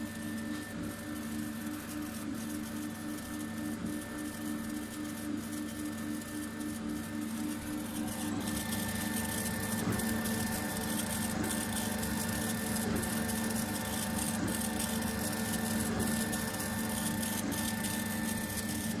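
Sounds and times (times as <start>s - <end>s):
fans and pumps droning: 0.0s - 19.0s
stepper motors pulsing hum: 1.9s - 19.0s.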